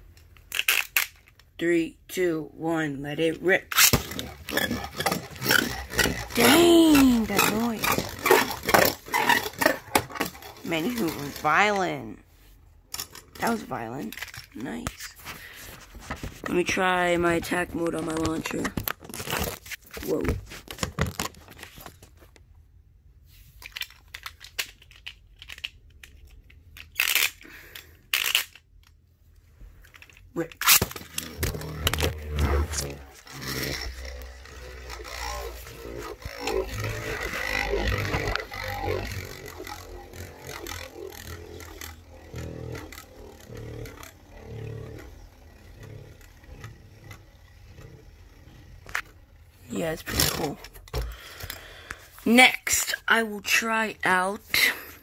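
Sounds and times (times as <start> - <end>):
rattling and small clicks: 0.0 - 1.6, 3.3 - 11.8, 12.9 - 22.5, 23.5 - 54.2
spinning top skittering on plastic: 0.2 - 1.6, 3.2 - 11.8, 12.9 - 22.1, 23.5 - 29.0, 29.8 - 54.3.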